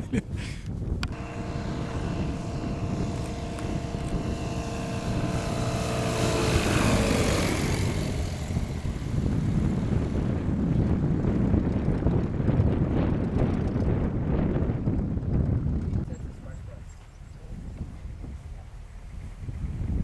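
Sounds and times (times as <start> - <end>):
light airplane engine droning: 0.0 - 20.0.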